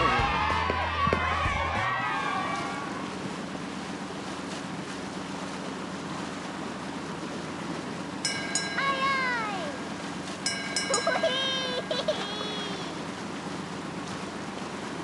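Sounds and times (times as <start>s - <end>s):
waves: 0.0s - 15.0s
wind: 0.0s - 15.0s
low steady hum: 1.2s - 15.0s.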